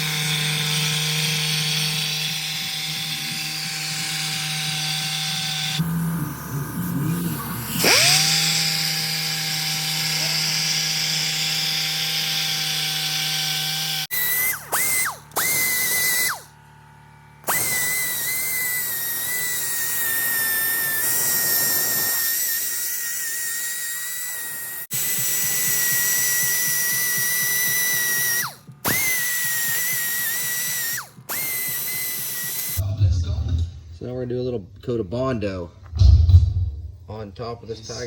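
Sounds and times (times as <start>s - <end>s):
rotary power tool whining: 0.0s - 32.8s.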